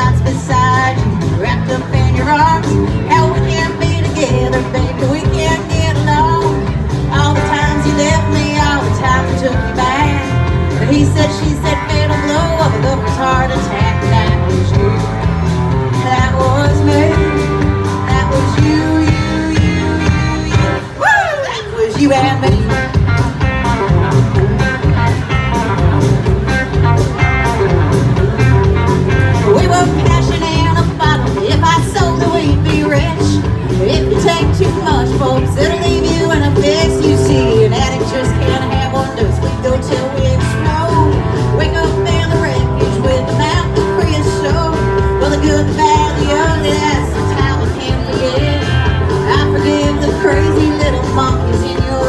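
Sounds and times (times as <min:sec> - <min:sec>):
band playing country-rock: 0:00.0 - 0:52.0
bass and drums: 0:00.0 - 0:52.0
electric guitar: 0:00.0 - 0:52.0.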